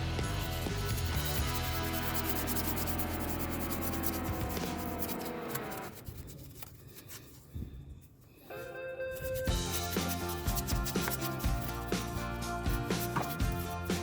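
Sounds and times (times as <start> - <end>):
background music: 0.0 - 5.9, 8.6 - 14.0
brush scrubbing an engine: 0.3 - 7.5, 9.2 - 14.0.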